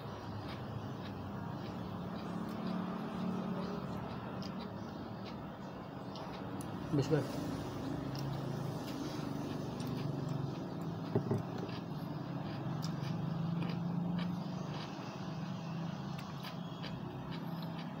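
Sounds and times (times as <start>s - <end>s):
motor vehicle engine humming: 0.0s - 18.0s.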